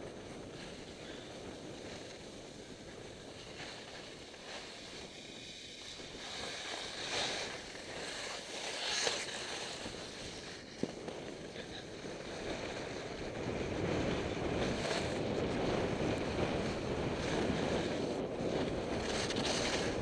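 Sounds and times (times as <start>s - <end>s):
skis scraping on snow: 0.0s - 20.0s
wind rushing over microphone: 0.0s - 20.0s.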